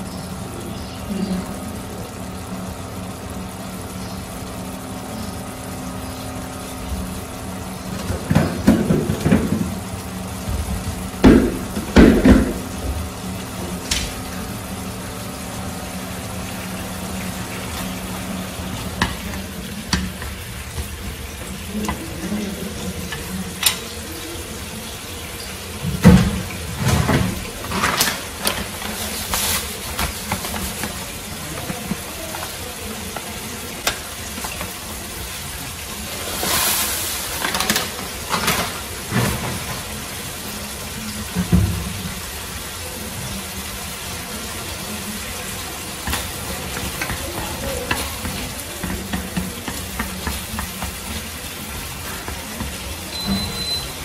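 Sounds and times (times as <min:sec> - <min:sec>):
sauce sizzling in a frying pan: 0:00.0 - 0:54.0.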